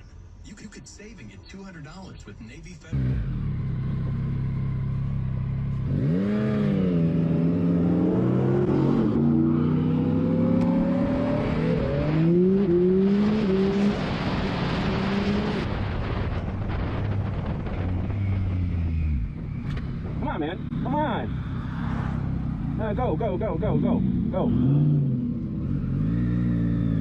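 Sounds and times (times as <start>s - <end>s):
vehicle engine revving and accelerating: 2.9s - 27.0s.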